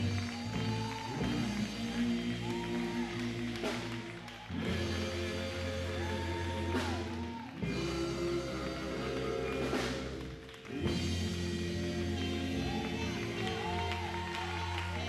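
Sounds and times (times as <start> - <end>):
live gospel quartet music: 0.0 - 15.0.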